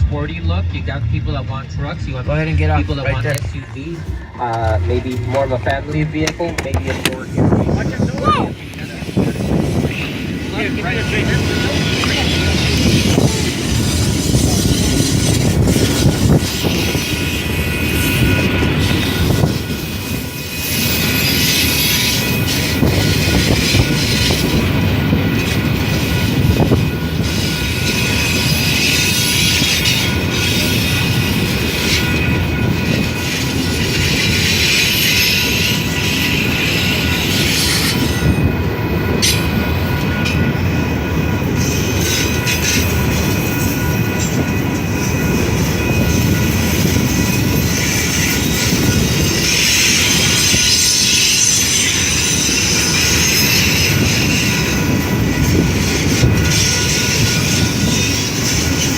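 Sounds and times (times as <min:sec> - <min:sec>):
train rumbling and clattering on rails: 0:00.0 - 0:58.9
wheel squeal: 0:06.8 - 0:58.9.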